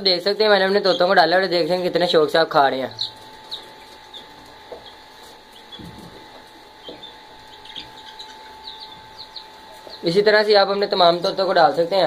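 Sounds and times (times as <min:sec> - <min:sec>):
faint steady whine: 0:00.0 - 0:12.0
parrots chirping: 0:00.5 - 0:02.0, 0:02.6 - 0:12.0.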